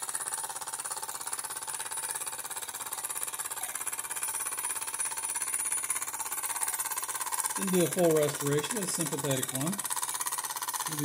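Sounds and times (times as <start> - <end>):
steam engine chuffing: 0.0 - 11.0.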